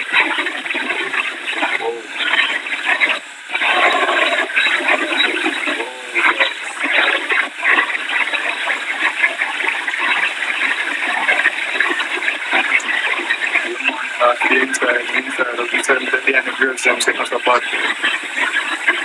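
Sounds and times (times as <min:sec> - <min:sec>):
wind and rain on microphone: 0:00.0 - 0:19.0.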